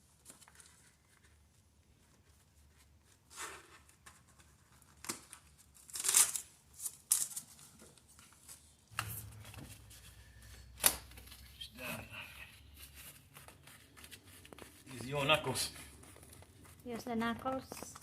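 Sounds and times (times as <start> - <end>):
padding material crinkling and tearing: 0.0 - 12.0, 12.6 - 18.0.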